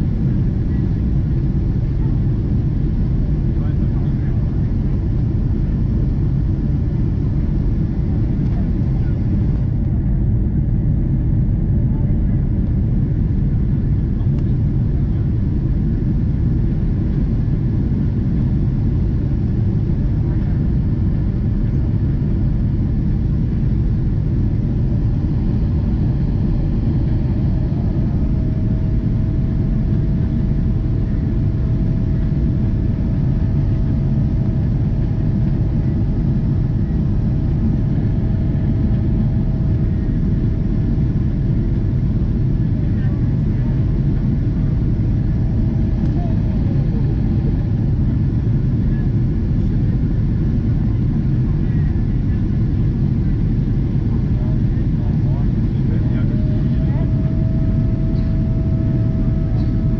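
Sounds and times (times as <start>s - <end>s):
airflow over fuselage: 0.0s - 59.9s
faint steady whine: 0.0s - 59.9s
jet engines rumbling: 0.0s - 59.9s.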